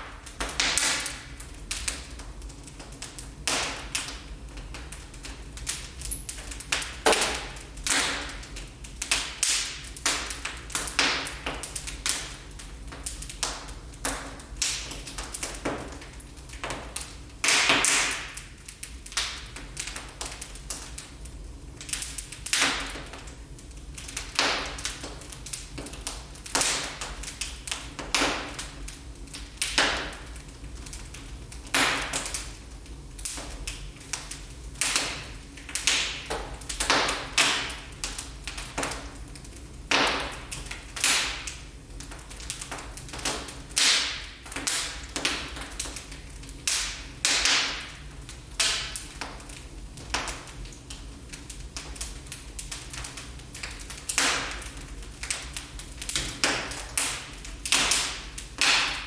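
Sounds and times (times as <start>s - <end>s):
low fire rumble: 0.0s - 59.0s
wood fire crackling: 0.0s - 59.0s.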